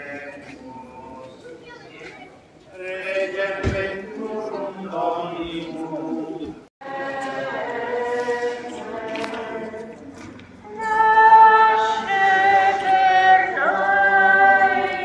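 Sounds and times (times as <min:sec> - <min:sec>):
choir singing a hymn: 0:00.0 - 0:01.3, 0:02.8 - 0:15.0.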